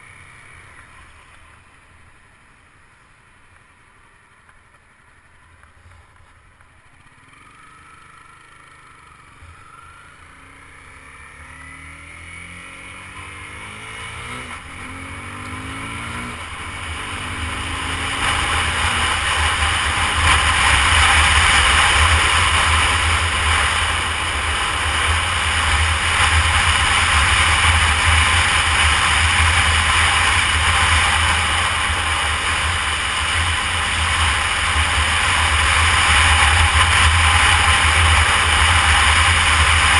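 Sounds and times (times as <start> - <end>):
motorcycle engine accelerating: 4.1 - 39.9.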